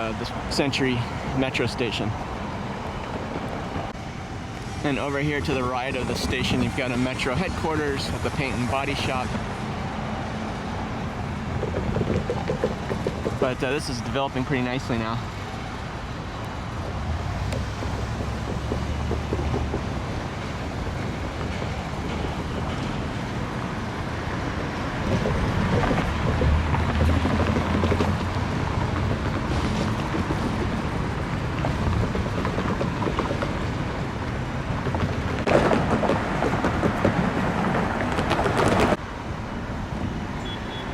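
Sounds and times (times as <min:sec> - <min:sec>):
road traffic rumble: 0:00.0 - 0:40.9.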